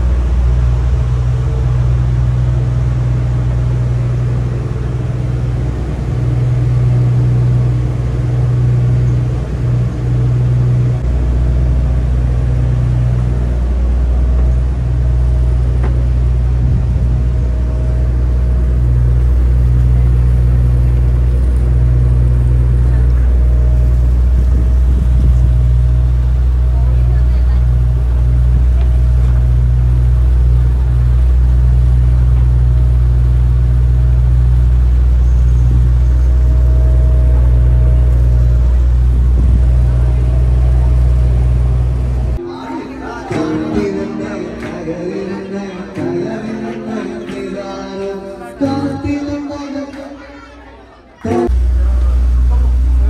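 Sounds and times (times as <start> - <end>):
ship's engine droning: 0.0 - 53.0.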